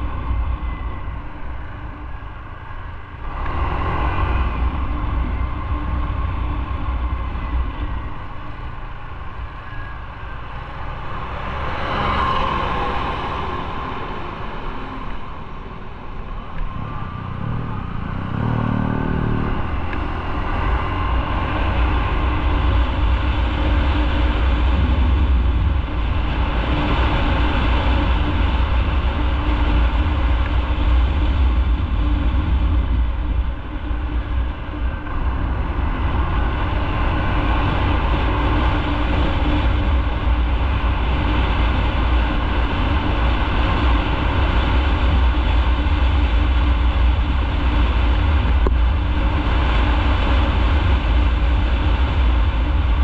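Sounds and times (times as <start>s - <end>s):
low rumble of wind: 0.0s - 53.0s
motorcycle engine and road noise: 0.0s - 53.0s.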